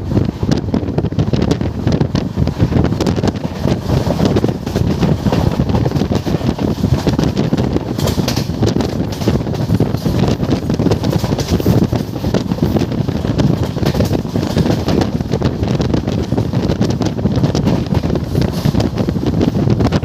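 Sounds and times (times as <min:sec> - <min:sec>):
train rumbling at speed: 0:00.0 - 0:20.0
wind buffeting microphone: 0:00.0 - 0:20.0.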